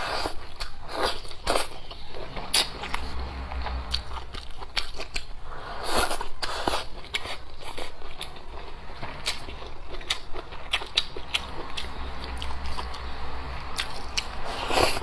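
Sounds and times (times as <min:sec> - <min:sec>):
person chewing meat: 0:00.0 - 0:15.0.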